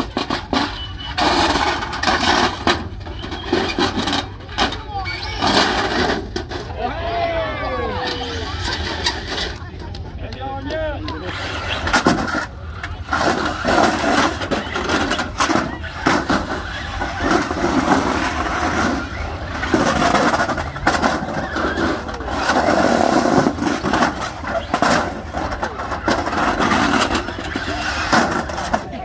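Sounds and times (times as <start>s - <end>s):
toy car motors whirring: 0.0s - 6.7s, 7.9s - 10.0s, 11.1s - 29.0s.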